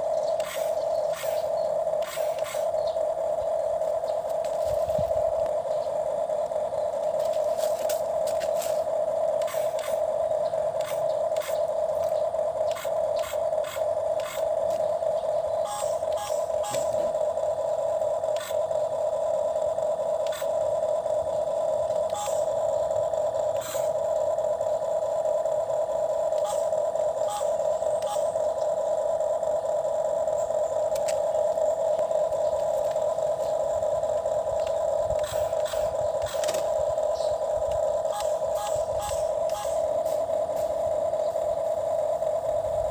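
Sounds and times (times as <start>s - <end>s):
small electric motor whining: 0.0s - 42.9s.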